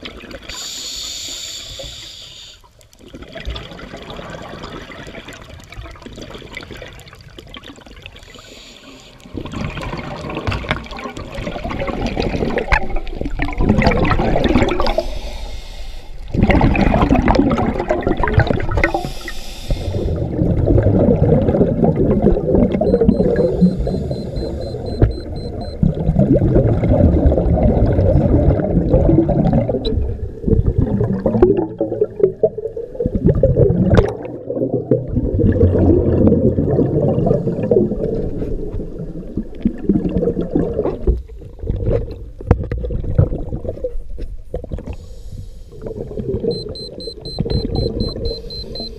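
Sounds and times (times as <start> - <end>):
exhaled air bubbling underwater: 0.0 - 48.9.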